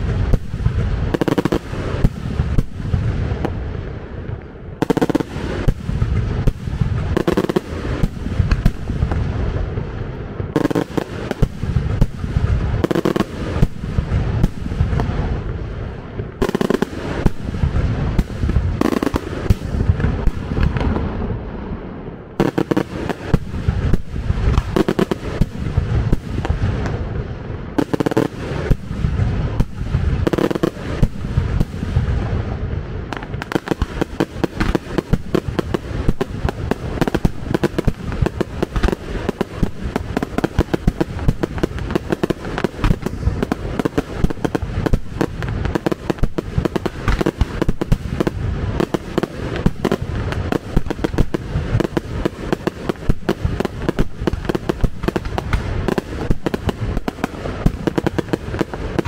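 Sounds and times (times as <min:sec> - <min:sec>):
fireworks bangs and crackling: 0:00.0 - 0:59.0
heavy firework booms: 0:00.0 - 0:59.0.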